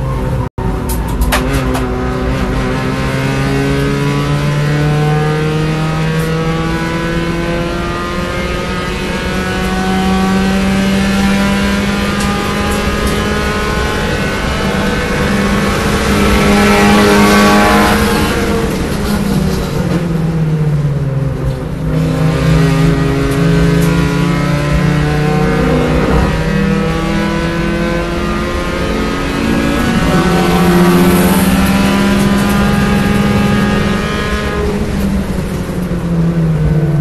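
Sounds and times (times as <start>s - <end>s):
race car engine revving: 0.0s - 37.0s.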